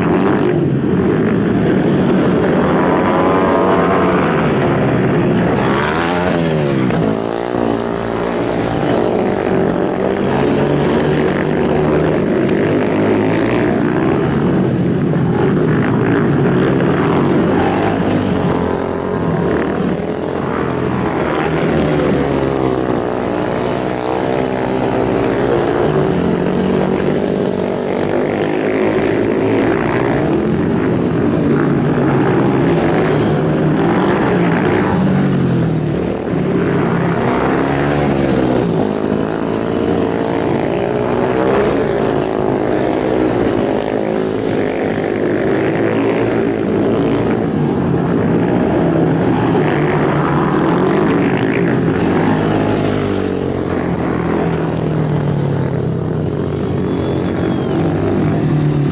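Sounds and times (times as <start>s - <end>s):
motorcycle engines revving: 0.0s - 58.9s.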